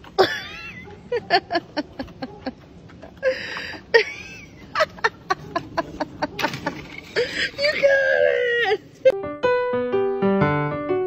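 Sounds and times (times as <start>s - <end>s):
person laughing: 0.1s - 9.2s.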